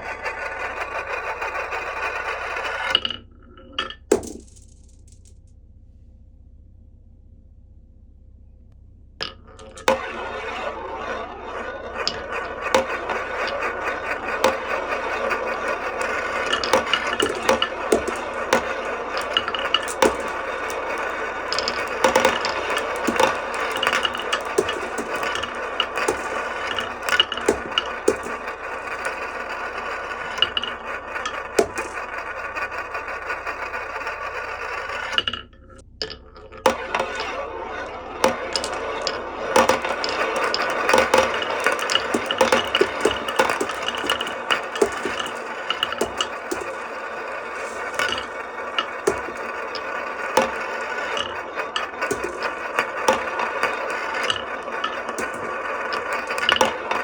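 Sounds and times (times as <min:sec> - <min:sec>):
marbles clacking against wood: 0:00.0 - 0:05.3, 0:09.2 - 0:57.0
marbles rolling on wooden track: 0:00.0 - 0:05.3, 0:09.2 - 0:57.0.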